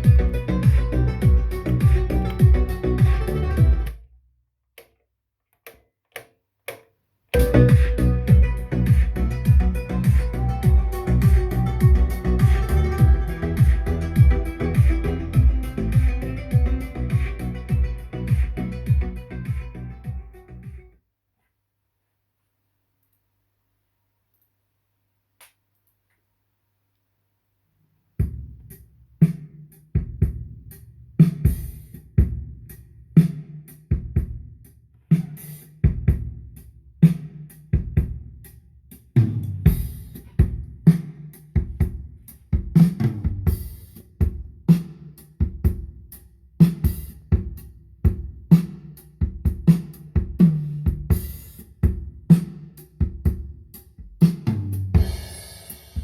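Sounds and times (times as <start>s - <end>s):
drum kit beat: 0.0s - 4.0s, 6.7s - 20.9s, 28.2s - 56.0s.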